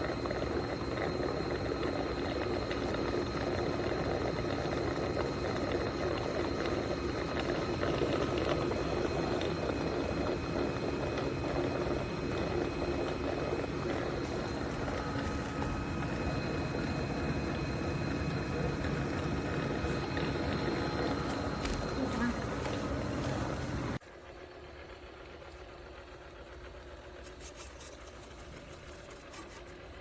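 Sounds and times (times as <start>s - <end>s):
robot vacuum running: 0.0s - 24.4s.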